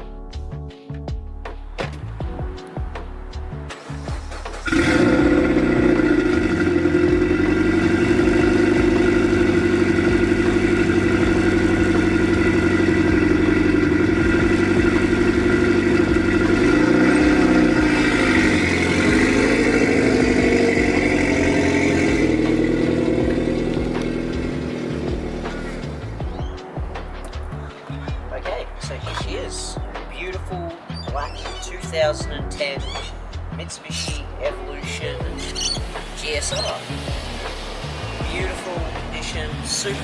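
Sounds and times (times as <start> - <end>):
car engine idling high: 2.8 - 28.3, 32.8 - 40.0.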